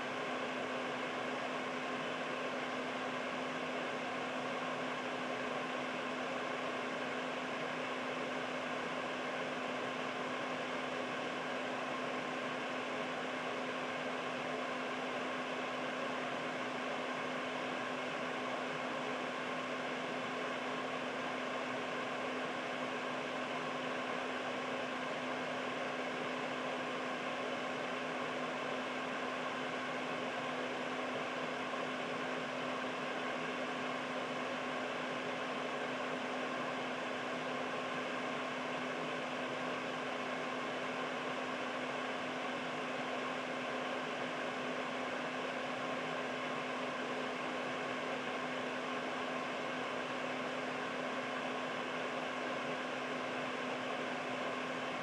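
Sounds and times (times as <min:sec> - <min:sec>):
air purifier fan running: 0:00.0 - 0:55.0.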